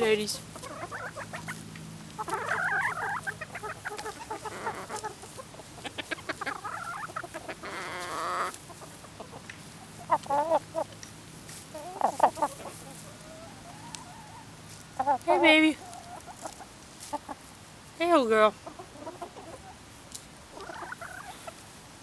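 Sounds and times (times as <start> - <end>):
hens clucking: 0.0 - 22.0.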